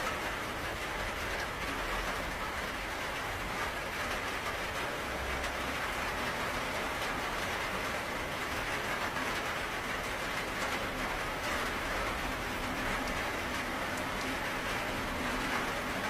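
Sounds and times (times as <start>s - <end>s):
steady rainfall hiss: 0.0s - 16.0s.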